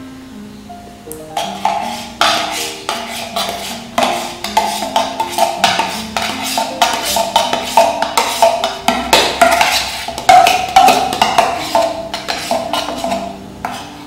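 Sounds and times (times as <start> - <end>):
wood-block-like melody: 1.1 - 13.9.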